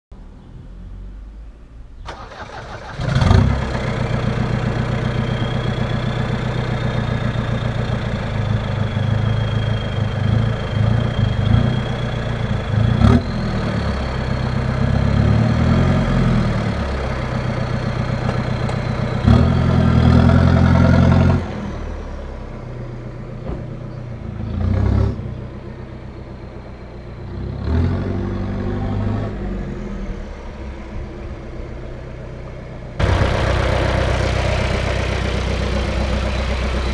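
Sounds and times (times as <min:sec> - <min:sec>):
diesel engine revving: 0:00.9 - 0:36.9.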